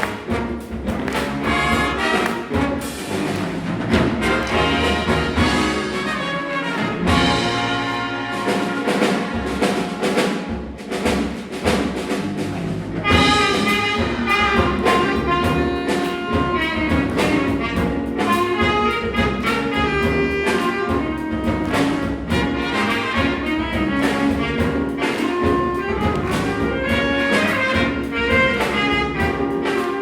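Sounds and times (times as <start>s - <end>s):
trumpets and trombones: 0.0s - 11.2s, 12.0s - 30.0s
jazz big band playing: 0.0s - 30.0s.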